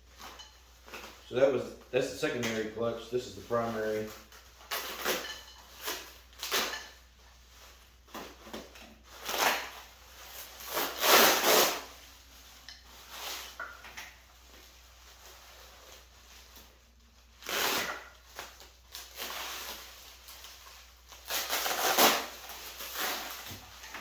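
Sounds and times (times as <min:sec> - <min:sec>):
packaging scraping and rustling: 0:02.3 - 0:24.0.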